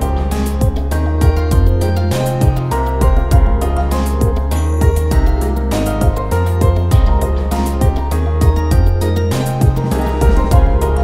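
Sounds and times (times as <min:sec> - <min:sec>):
bass line: 0:00.0 - 0:11.0
drum beat: 0:00.0 - 0:11.0.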